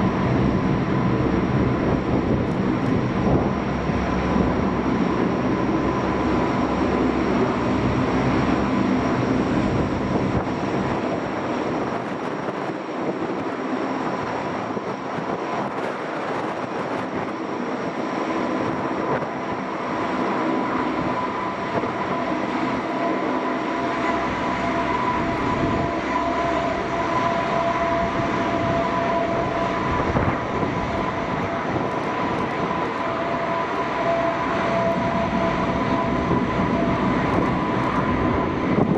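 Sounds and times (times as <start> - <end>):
lower engine whine: 0.0 - 38.9
turboprop engines whining: 0.0 - 38.9.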